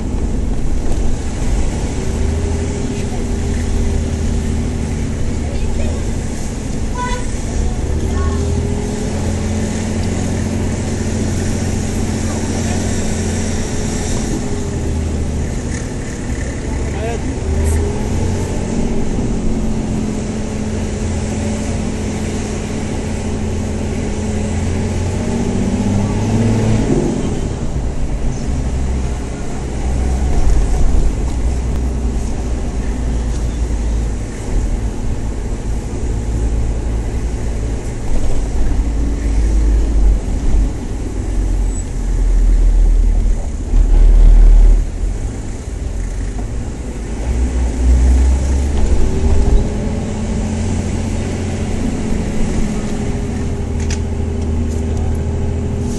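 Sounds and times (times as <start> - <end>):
car engine running at low speed: 0.0 - 55.9
road rumble: 0.0 - 55.9.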